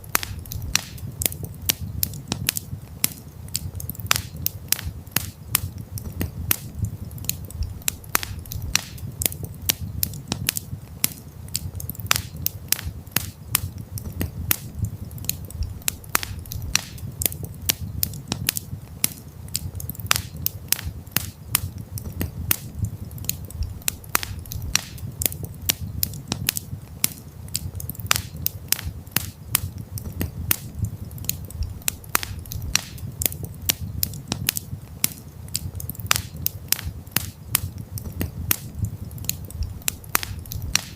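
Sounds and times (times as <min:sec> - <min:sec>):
campfire crackling and popping: 0:00.0 - 0:40.9
low rumble of burning: 0:00.0 - 0:40.9.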